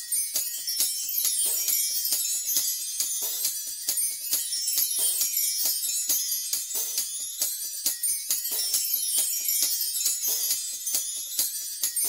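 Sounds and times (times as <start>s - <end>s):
instrumental music with percussion: 0.0s - 12.0s.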